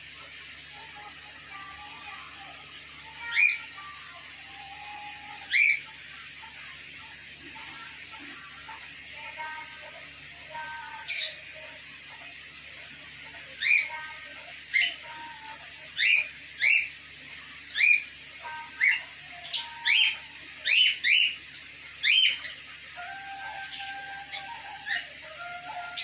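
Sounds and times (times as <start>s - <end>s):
parrot chirping: 0.3s - 9.8s, 10.6s - 12.2s, 13.2s - 17.0s, 17.7s - 26.0s.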